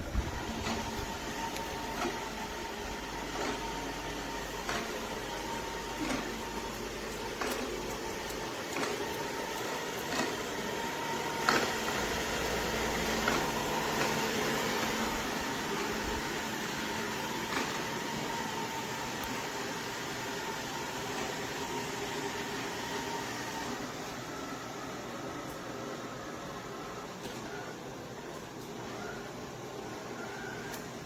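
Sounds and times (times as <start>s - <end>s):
robot vacuum motor hum: 0.0s - 27.7s.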